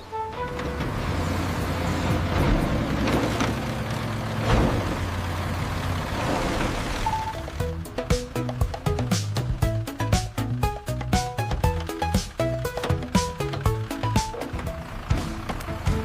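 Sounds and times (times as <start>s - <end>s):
road traffic engines humming: 0.0s - 16.0s.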